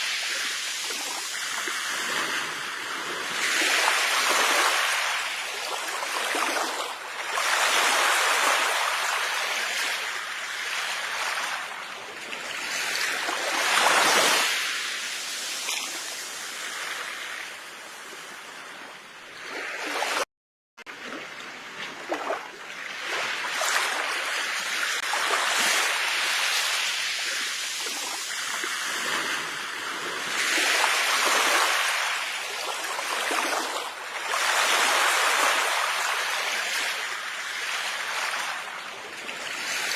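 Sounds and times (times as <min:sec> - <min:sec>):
sea waves washing onto shore: 0:00.0 - 0:18.8, 0:20.9 - 0:39.9.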